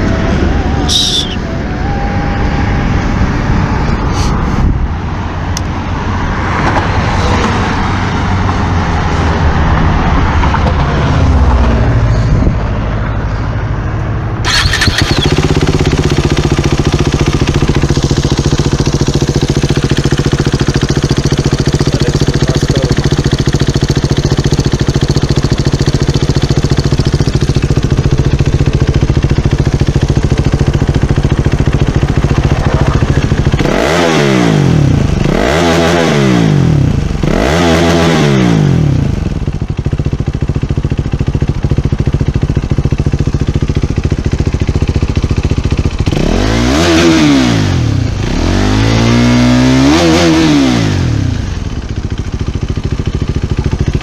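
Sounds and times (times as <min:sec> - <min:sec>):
motorcycle engine revving and idling: 0:00.0 - 0:54.0.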